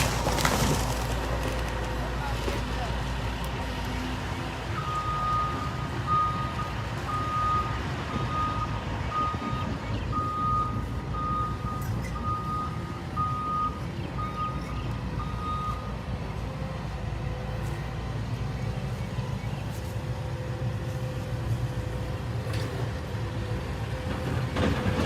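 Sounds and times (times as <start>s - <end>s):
low engine rumble: 0.0s - 25.0s.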